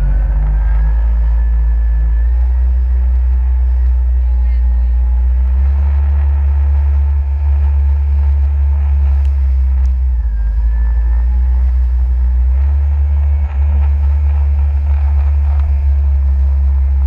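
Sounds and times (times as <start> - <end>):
jet ski engine running: 0.0 - 17.0.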